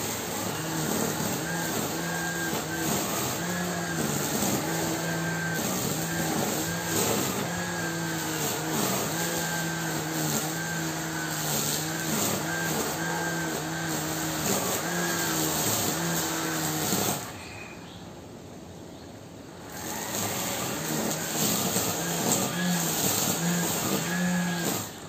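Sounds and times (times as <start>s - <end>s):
electric grass trimmer running: 0.0s - 17.4s, 19.6s - 25.0s
swish of cut grass: 0.0s - 17.4s, 19.8s - 25.0s.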